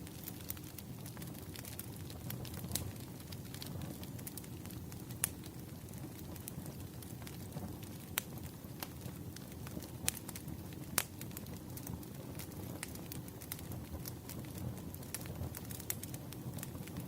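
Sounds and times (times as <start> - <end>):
campfire rumble: 0.0 - 17.0
fire pops and crackles: 0.0 - 17.0.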